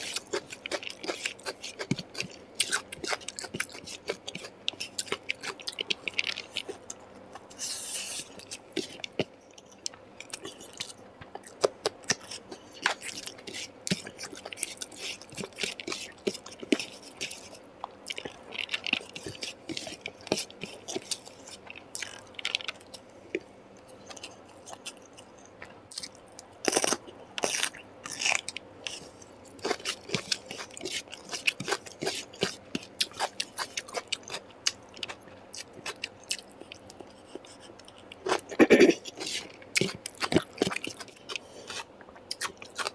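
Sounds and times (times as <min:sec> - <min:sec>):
person chewing and biting: 0:00.0 - 0:23.0, 0:25.9 - 0:42.9.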